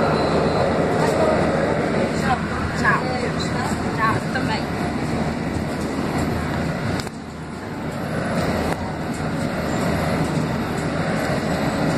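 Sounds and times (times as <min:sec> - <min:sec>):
vehicle engine and road rumble: 0:00.0 - 0:11.9.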